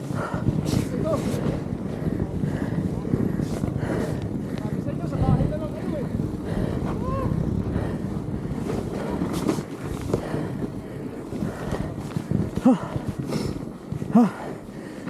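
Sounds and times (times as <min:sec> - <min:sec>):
bike riding on trail: 0:00.0 - 0:15.0
wind buffeting microphone: 0:00.0 - 0:15.0.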